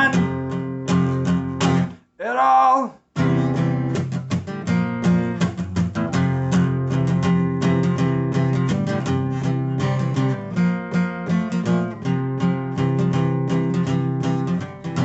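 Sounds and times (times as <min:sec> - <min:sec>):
acoustic guitar strumming chords: 0:00.0 - 0:02.0, 0:03.2 - 0:15.0.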